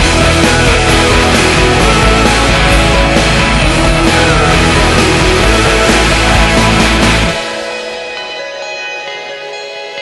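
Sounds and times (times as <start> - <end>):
heavy rock music: 0.0 - 10.0.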